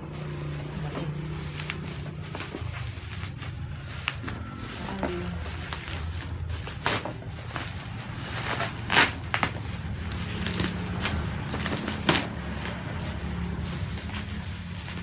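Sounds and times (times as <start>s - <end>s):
box packaging crackling and rustling: 0.0s - 15.0s
low steady hum: 0.0s - 15.0s.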